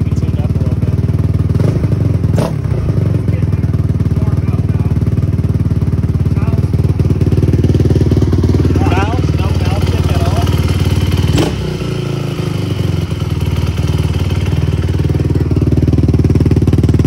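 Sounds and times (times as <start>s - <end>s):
quad engine idling: 0.0s - 17.0s.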